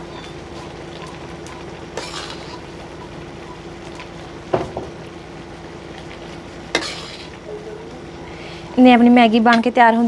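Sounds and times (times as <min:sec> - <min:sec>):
noodles simmering hiss: 0:00.0 - 0:09.4.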